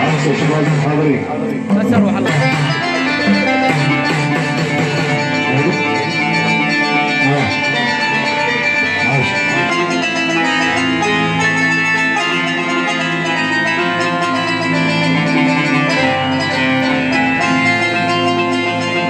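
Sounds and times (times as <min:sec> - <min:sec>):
dense sustained band backing: 0:00.0 - 0:19.0
plucked string melody: 0:00.0 - 0:19.0.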